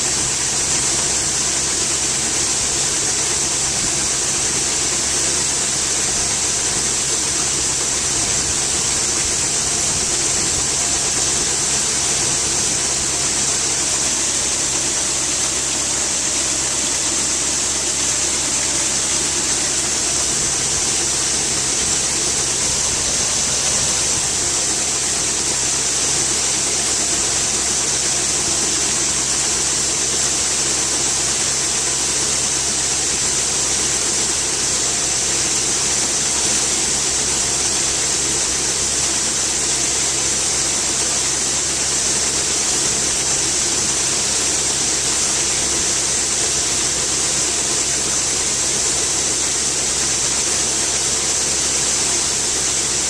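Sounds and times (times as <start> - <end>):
diesel engine running: 0.0 - 53.0
loud even hiss: 0.0 - 53.0.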